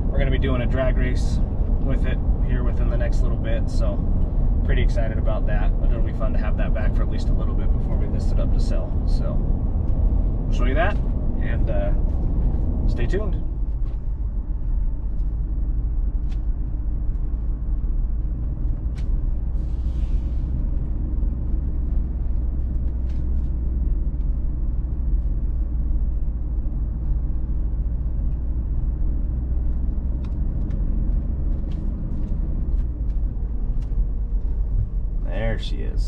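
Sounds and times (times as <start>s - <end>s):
truck engine and tyres rumbling: 0.0s - 36.0s.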